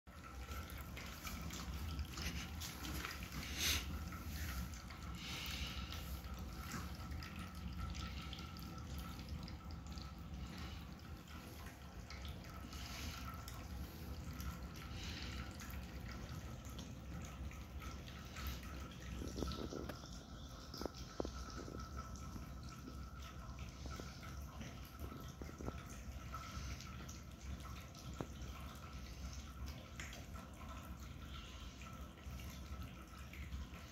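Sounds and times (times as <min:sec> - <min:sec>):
low steady hum: 0:00.1 - 0:33.9
cats chewing and licking: 0:00.3 - 0:31.3.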